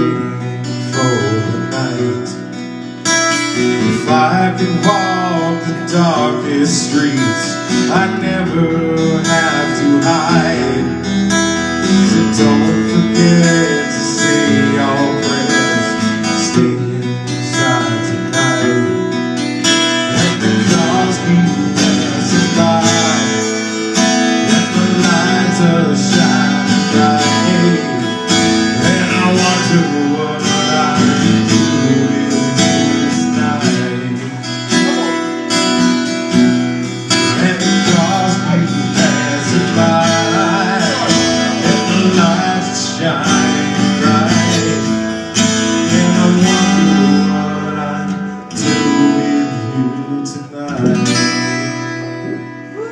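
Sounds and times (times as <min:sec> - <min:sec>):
wavering melodic lead line: 0:00.0 - 0:50.2
strummed acoustic guitar: 0:00.0 - 0:52.9.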